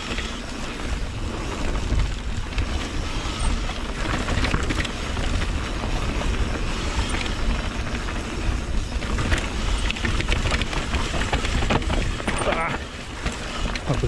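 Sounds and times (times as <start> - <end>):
bike clicks and rattles: 0.0 - 14.0
bike tyres rolling on trail: 0.0 - 14.0
wind rumble on microphone: 0.0 - 14.0.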